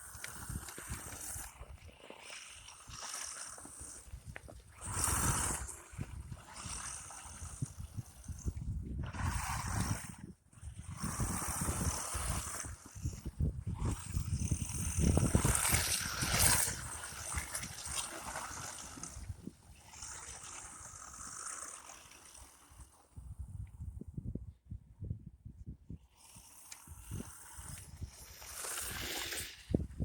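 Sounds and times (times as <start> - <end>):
electric toy car motor whining: 0.0 - 23.0, 26.1 - 29.9
tyres churning snow: 0.0 - 23.1, 26.2 - 30.0.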